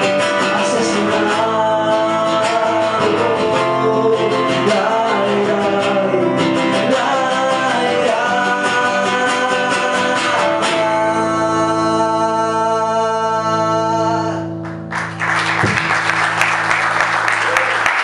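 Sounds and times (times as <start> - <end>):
man singing: 0.0 - 14.6
acoustic guitar strumming: 0.0 - 14.9.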